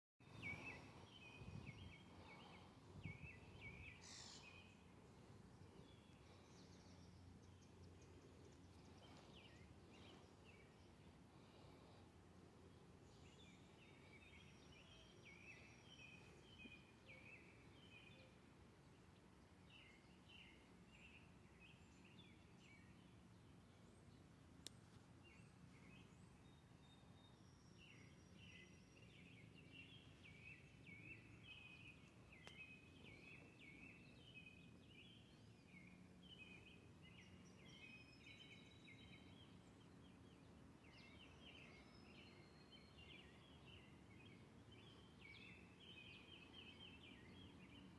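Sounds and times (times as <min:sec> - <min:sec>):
low background hum: 0:00.2 - 0:47.9
small birds chirping: 0:00.2 - 0:47.9.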